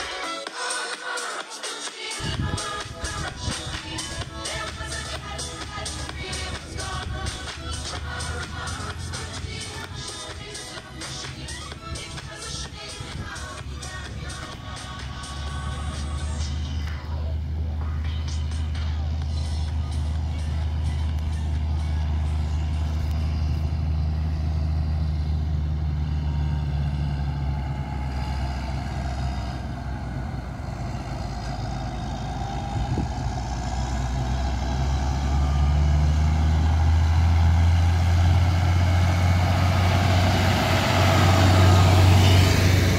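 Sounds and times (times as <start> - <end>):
tractor diesel engine: 0.0 - 42.9.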